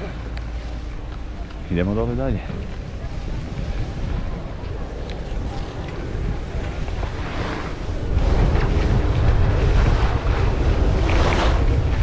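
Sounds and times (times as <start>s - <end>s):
skis scraping over snow: 0.0s - 12.0s
wind buffeting microphone: 0.0s - 12.0s.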